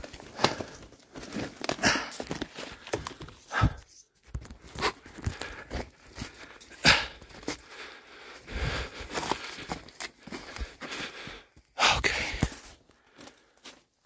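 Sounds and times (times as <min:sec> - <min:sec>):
footsteps in undergrowth: 0:00.0 - 0:11.8.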